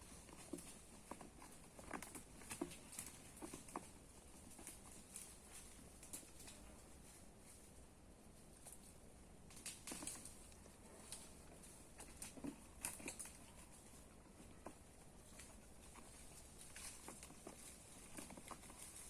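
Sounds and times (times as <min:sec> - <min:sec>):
rustling and light taps: 0:00.0 - 0:19.0.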